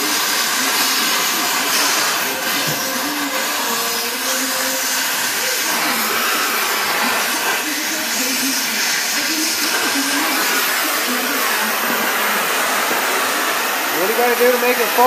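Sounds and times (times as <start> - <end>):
cutting torch hissing: 0.0 - 15.0.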